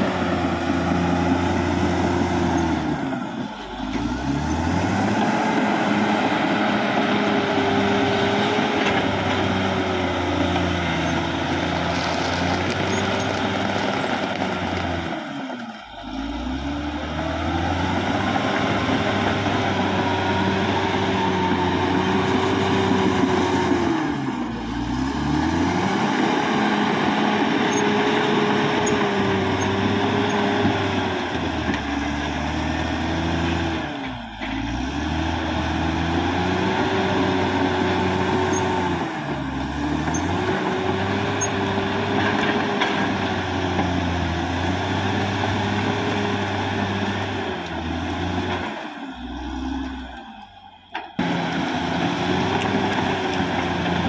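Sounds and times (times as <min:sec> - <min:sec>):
bulldozer blade pushing soil: 0:00.0 - 0:54.0
bulldozer diesel engine: 0:00.0 - 0:54.0.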